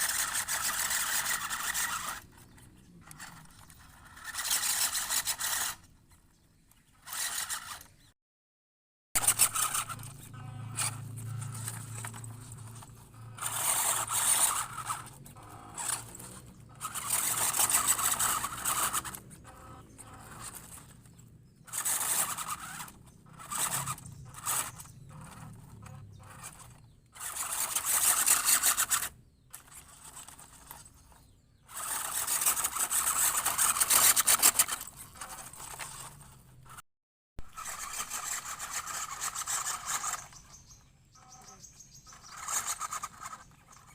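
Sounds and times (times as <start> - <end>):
electric motor and gearbox whirring: 0.0 - 8.1, 9.2 - 36.8, 37.4 - 43.9.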